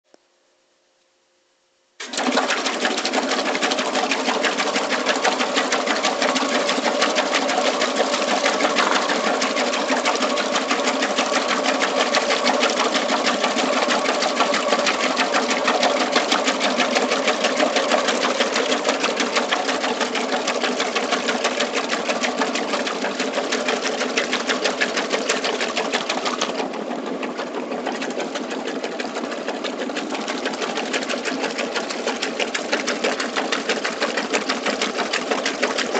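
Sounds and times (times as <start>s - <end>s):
washing machine agitating: 2.0s - 35.9s
water churning: 2.0s - 35.9s.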